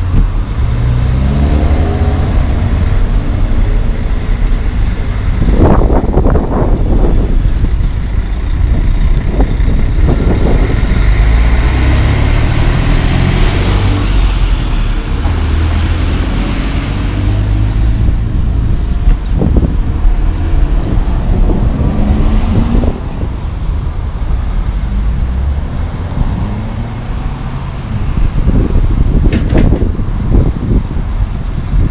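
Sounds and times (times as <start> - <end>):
cars passing: 0.0 - 31.9
dump truck moving off: 0.0 - 31.9.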